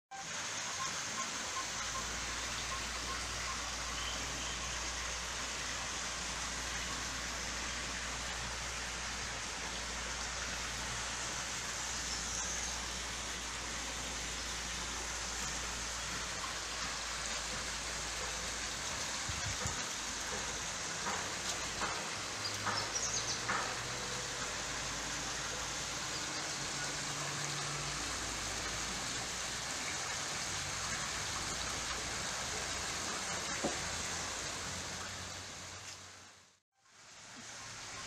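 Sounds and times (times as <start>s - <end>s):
water jet splashing: 1.1s - 35.9s.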